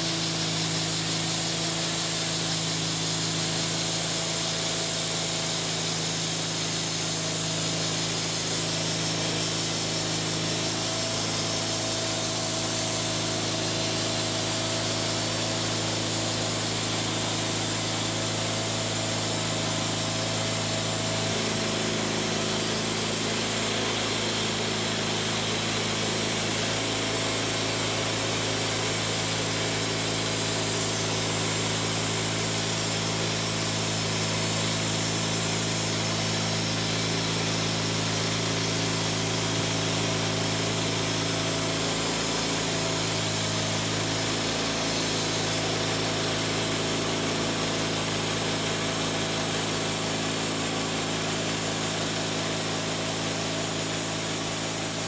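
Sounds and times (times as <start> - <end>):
sawmill engine and blade drone: 0.0 - 55.0.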